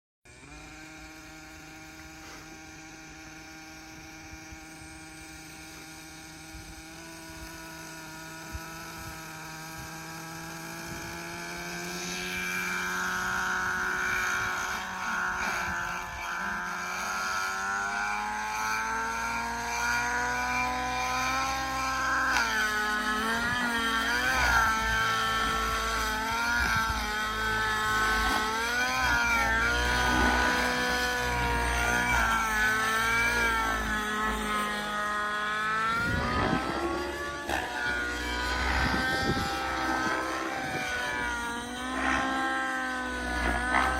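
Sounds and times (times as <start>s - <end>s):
model helicopter engine running: 0.3s - 43.9s.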